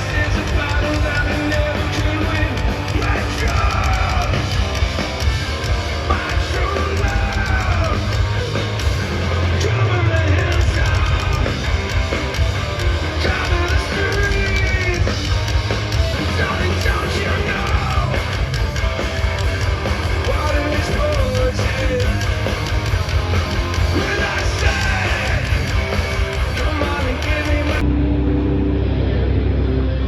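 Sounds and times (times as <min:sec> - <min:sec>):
drums: 0:00.0 - 0:30.0
heavy bass: 0:00.0 - 0:30.0
punk rock band playing live: 0:00.0 - 0:30.0.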